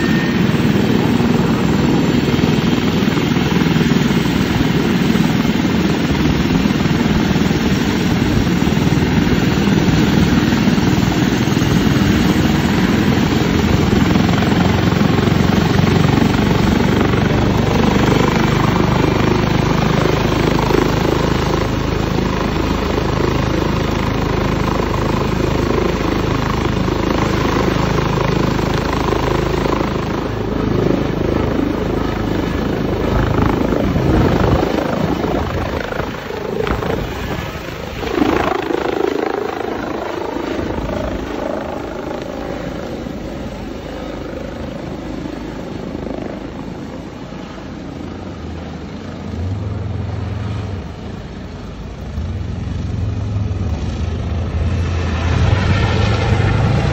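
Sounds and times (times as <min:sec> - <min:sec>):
helicopter rotor and turbine engines: 0:00.0 - 0:56.9.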